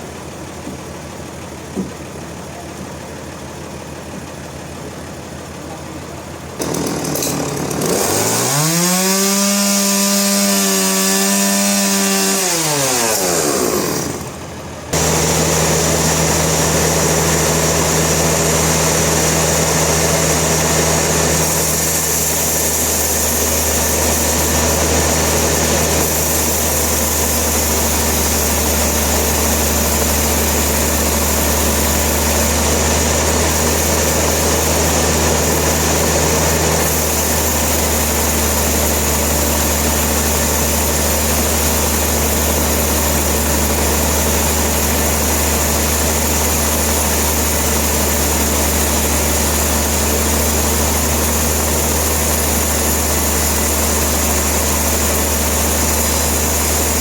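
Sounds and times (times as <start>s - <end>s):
saw motor whining: 6.6s - 57.0s.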